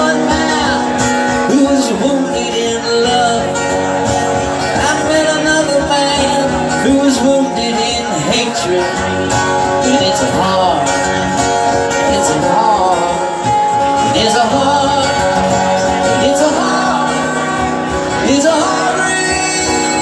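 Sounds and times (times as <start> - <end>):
man singing wordless melody: 0.0 - 4.0, 4.6 - 11.1, 11.9 - 20.0
acoustic guitar strumming: 0.0 - 20.0.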